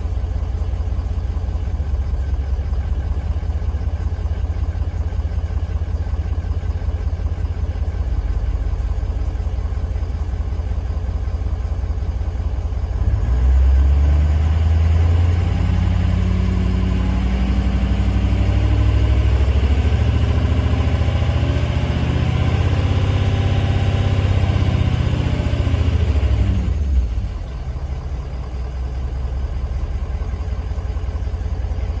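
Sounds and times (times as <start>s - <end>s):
diesel engine revving and idling: 0.0s - 32.0s.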